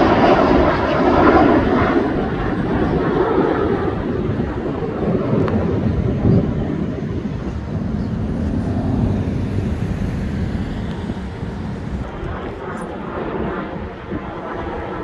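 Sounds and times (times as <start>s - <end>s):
jet engine rumble overhead: 0.0s - 15.0s.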